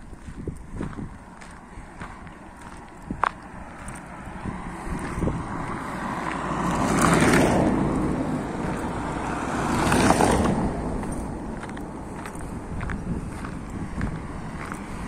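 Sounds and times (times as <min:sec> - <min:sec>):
cars passing close by: 0:00.0 - 0:15.0.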